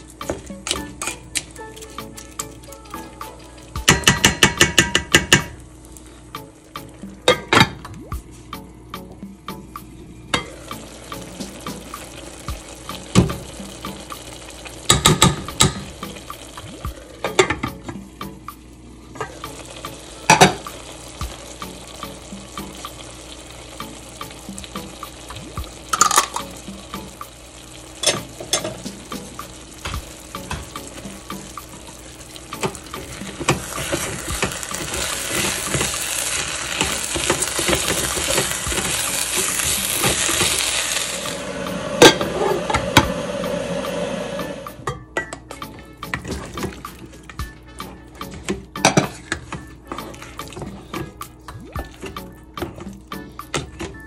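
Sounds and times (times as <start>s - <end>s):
steady sizzle: 0.0s - 44.9s, 45.5s - 54.0s.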